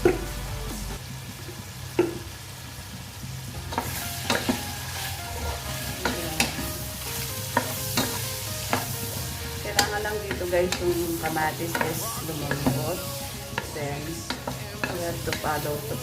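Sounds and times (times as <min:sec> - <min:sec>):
meat sizzling in a frying pan: 0:01.0 - 0:16.0.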